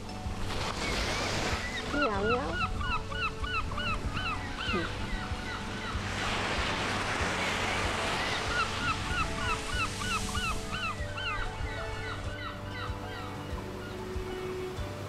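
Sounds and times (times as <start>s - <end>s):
sea waves washing onto beach: 0.0s - 15.0s
soft background music: 0.0s - 15.0s
gulls calling: 0.6s - 15.0s.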